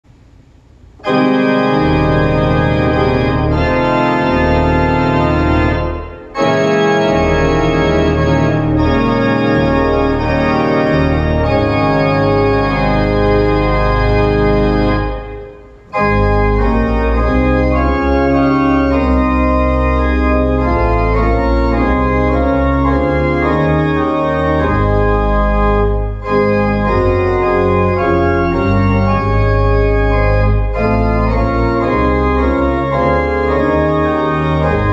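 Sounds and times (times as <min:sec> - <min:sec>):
low organ pedal bass: 0:01.0 - 0:34.9
organ playing hymn chords: 0:01.0 - 0:34.9.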